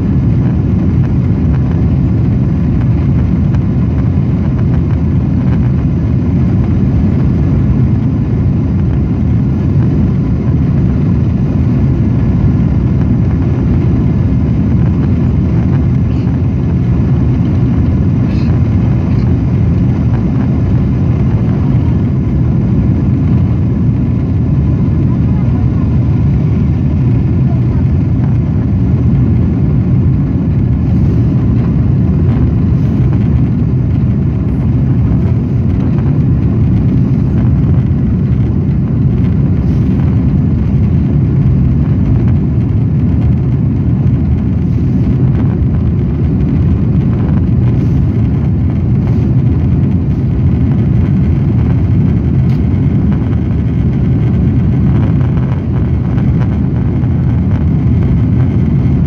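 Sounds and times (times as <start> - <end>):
jet engines low rumble: 0.0 - 59.0
rush of air: 0.0 - 59.0.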